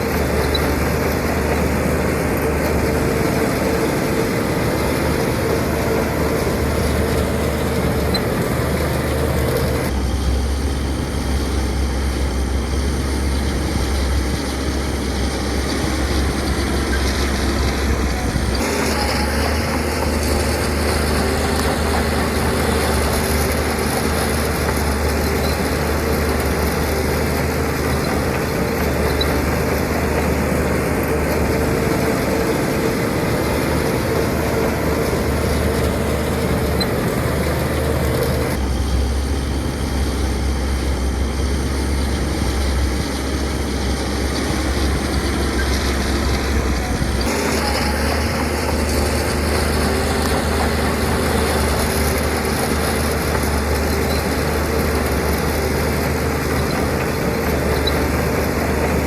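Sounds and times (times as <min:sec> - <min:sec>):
diesel machinery engine hum: 0:00.0 - 0:59.0.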